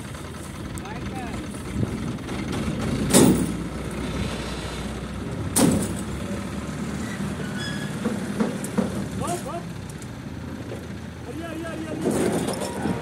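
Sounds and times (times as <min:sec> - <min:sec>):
crane engine running: 0:00.0 - 0:13.0.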